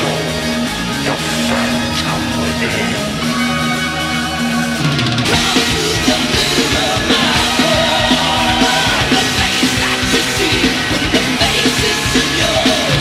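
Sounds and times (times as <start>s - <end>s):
heavy metal song: 0.0s - 13.0s.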